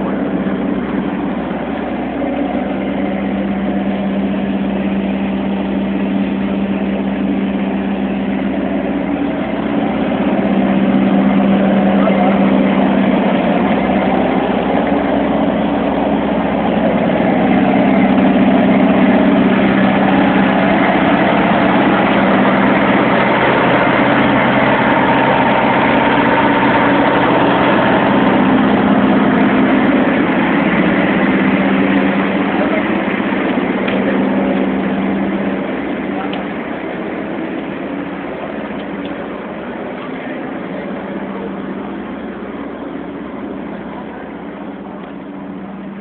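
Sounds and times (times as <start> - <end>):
diesel engine idling: 0.0 - 46.0
refrigeration unit running: 0.0 - 46.0.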